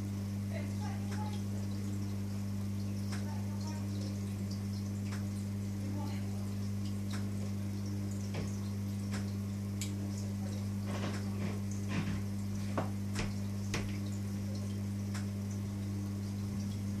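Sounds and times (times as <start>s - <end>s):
aquarium pump hum: 0.0s - 17.0s
water trickling: 0.0s - 17.0s
water drips and clicks: 0.8s - 17.0s.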